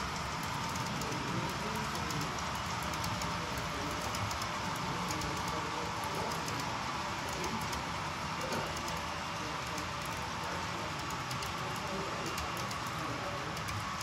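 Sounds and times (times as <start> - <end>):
model freight cars rolling: 0.0 - 14.0.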